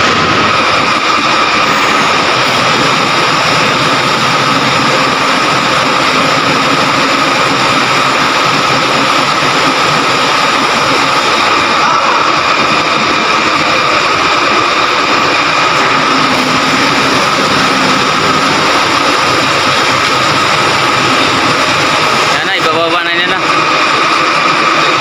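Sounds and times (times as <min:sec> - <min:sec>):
crane truck engine drone: 0:00.0 - 0:25.0.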